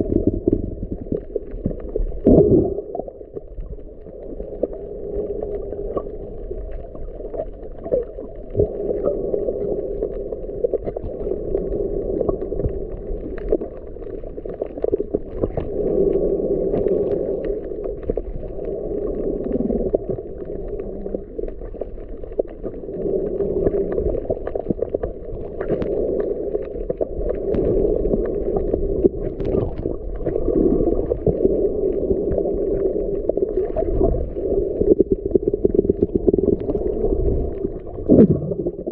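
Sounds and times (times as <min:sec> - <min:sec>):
faint underwater clicks: 0:00.0 - 0:38.9
muffled underwater churning: 0:00.0 - 0:38.9.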